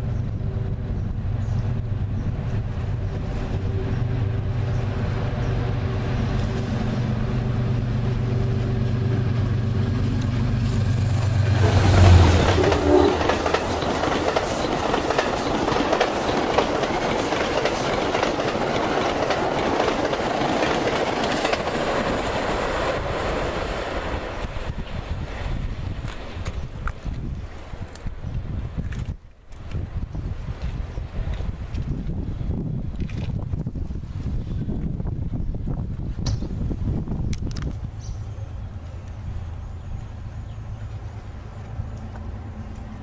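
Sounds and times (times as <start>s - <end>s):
diesel locomotive engine drone: 0.0s - 28.9s, 29.5s - 43.0s
train wheels rushing on rails: 0.0s - 43.0s.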